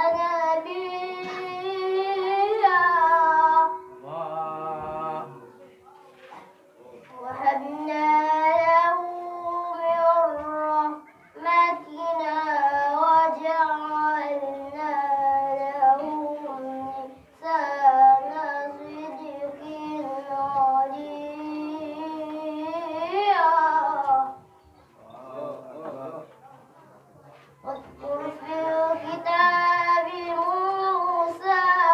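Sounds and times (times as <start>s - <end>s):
boy chanting melodic recitation: 0.0s - 26.6s, 27.6s - 31.9s.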